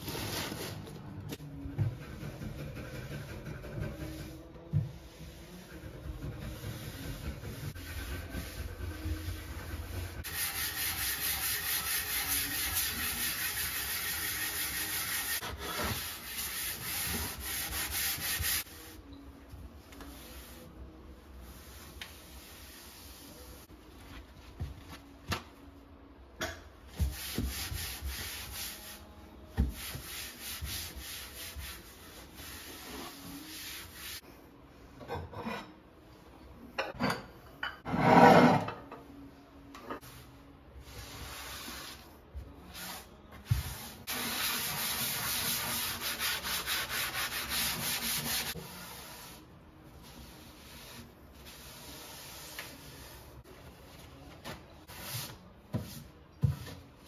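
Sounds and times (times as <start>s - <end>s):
cloth wiping a shelf: 1.8s - 19.0s, 19.8s - 25.1s, 27.0s - 34.2s, 40.0s - 57.0s.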